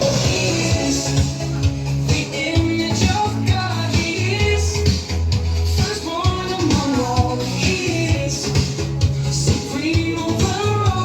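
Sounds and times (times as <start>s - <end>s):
pop song with singing: 0.0s - 11.0s.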